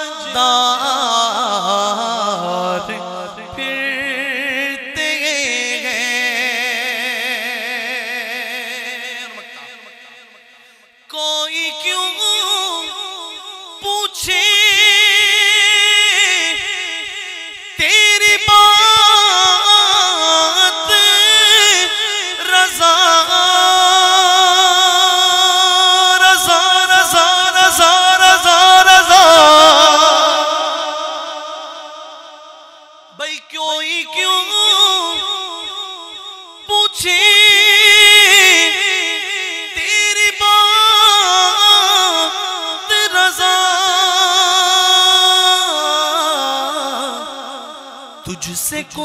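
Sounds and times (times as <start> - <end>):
man singing into a microphone: 0.0 - 49.0.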